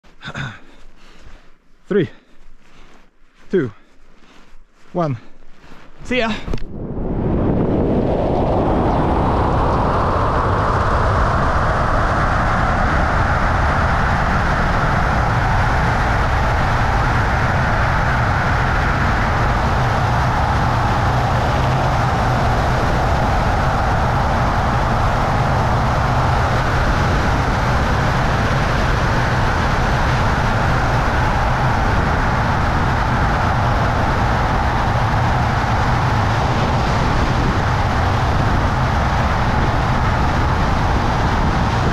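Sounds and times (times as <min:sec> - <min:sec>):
heavy low rumble: 0:00.0 - 0:41.9
rushing wind on microphone: 0:00.0 - 0:41.9.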